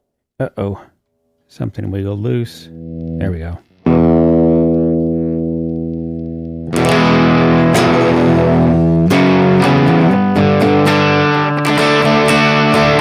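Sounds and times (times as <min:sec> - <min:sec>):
distorted electric guitar chords: 0:02.4 - 0:13.0.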